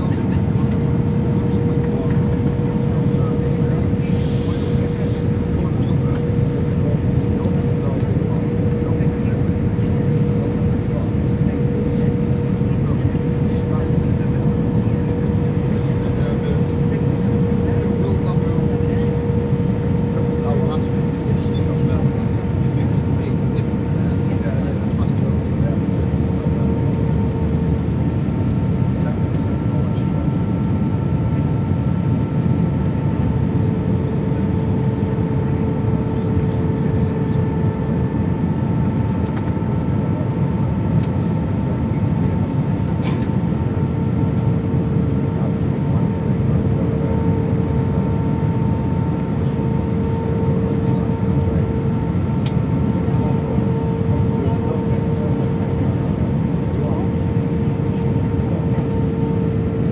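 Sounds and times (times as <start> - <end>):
engine whine: 0.0 - 59.9
jet engines and airflow roaring: 0.0 - 59.9.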